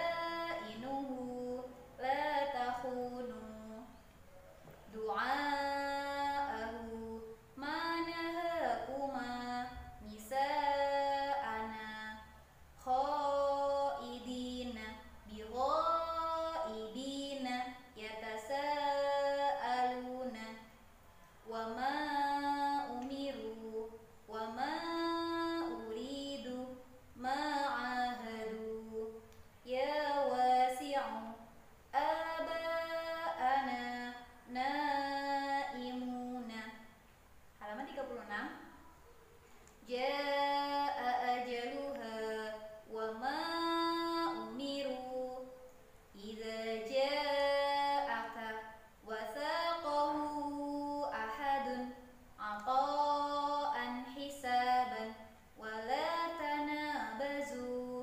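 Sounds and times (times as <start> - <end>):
woman chanting melodically: 0.0 - 36.9, 37.6 - 39.0, 39.8 - 58.0.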